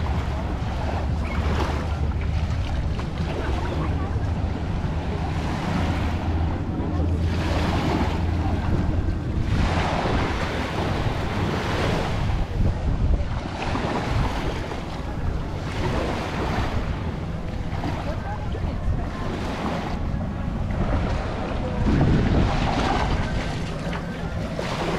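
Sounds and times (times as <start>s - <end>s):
small waves washing up beach: 0.0s - 24.9s
wind buffeting microphone: 0.0s - 24.9s.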